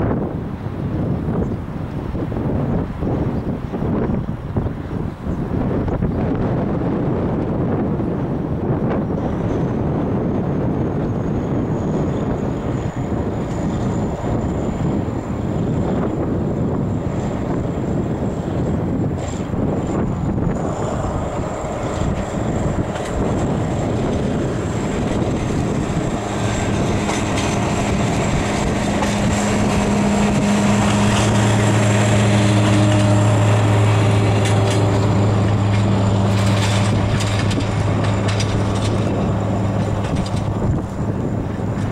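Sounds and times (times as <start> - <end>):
diesel railcar engine drone: 0.0 - 41.9
wind buffeting microphone: 0.0 - 41.9.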